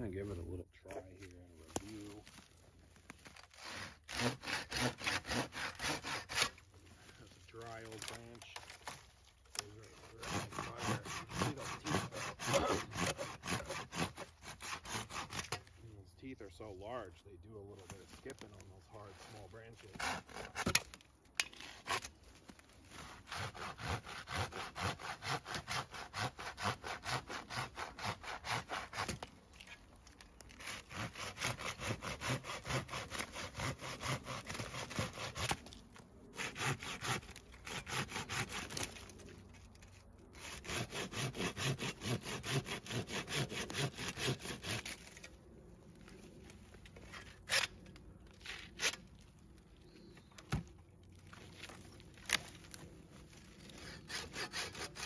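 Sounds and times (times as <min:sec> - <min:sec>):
hand saw cutting branch: 0:03.1 - 0:15.9, 0:17.8 - 0:45.4, 0:46.9 - 0:49.1, 0:51.3 - 0:55.0.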